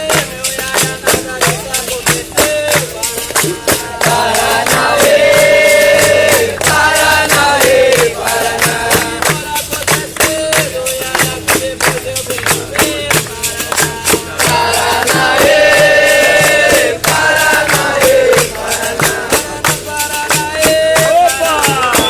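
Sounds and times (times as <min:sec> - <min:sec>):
berimbau and hand percussion: 0:00.0 - 0:22.0
group of voices singing chant: 0:00.0 - 0:22.0.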